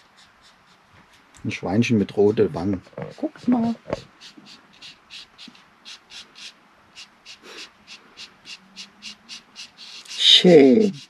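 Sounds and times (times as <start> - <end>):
scratchy colouring strokes on paper: 0.0 - 11.0.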